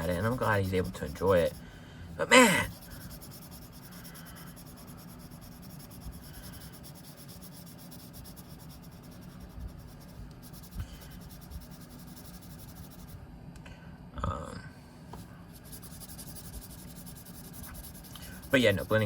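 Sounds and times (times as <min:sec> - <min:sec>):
blending stump scraping on paper: 0:00.0 - 0:01.6, 0:02.6 - 0:13.2, 0:15.5 - 0:19.0.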